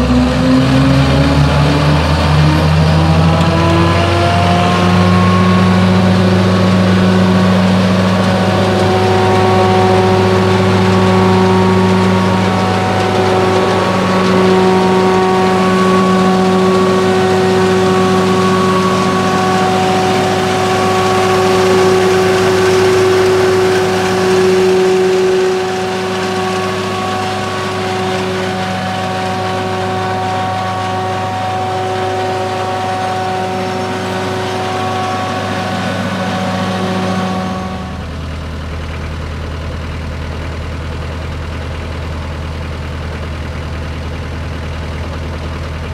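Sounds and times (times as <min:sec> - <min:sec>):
wood chipper diesel engine: 0:00.0 - 0:45.9.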